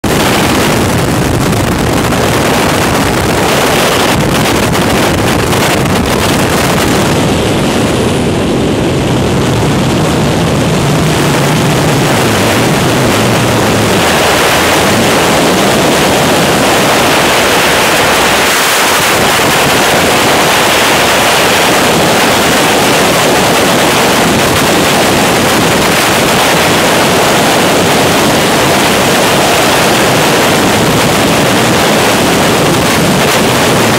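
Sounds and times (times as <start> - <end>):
wind rushing on a microphone: 0.0 - 33.9.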